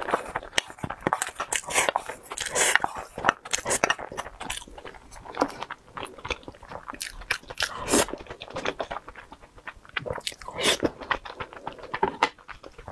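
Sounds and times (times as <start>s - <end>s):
person chewing with mouth smacks: 0.0s - 12.9s.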